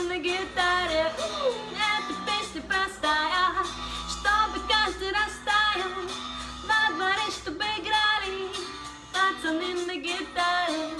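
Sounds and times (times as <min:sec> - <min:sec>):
woman singing: 0:00.0 - 0:10.9.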